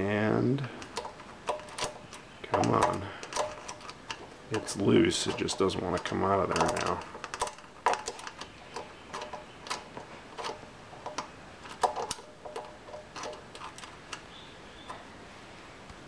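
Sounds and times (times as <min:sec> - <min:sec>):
screwdriver clicking in metal: 0:00.8 - 0:14.3.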